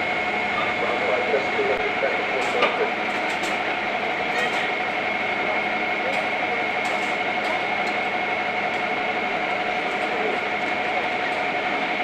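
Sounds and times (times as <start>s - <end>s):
fire engine running with whine: 0.0s - 12.0s.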